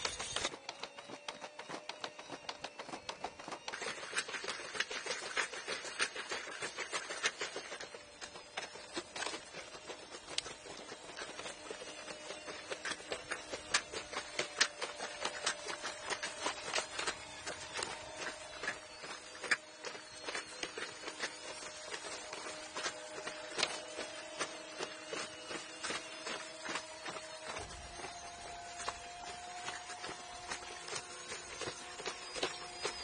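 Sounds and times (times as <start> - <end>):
faint hydraulic whine: 0.0 - 33.0.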